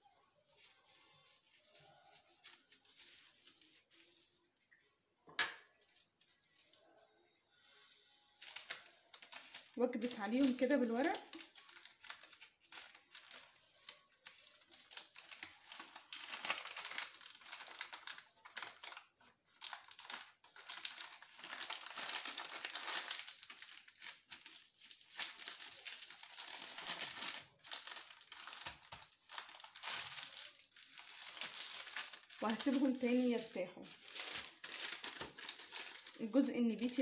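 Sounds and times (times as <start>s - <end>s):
baking paper rustling: 0.0s - 4.5s, 5.8s - 7.0s, 8.4s - 37.0s.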